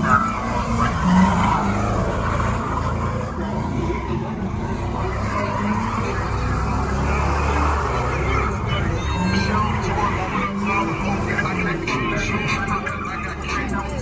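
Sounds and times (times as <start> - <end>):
car engine running: 0.0 - 14.0
car tyres squealing: 0.0 - 14.0.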